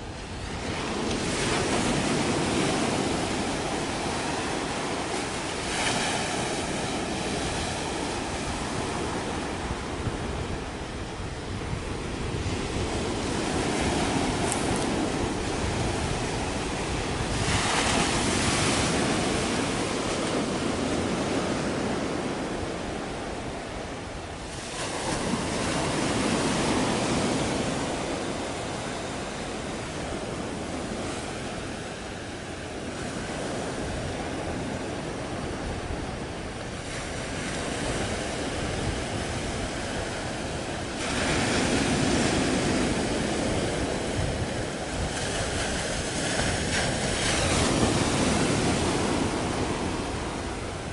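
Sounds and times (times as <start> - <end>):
sea waves washing in: 0.0 - 50.9
wind buffeting microphone: 0.0 - 50.9.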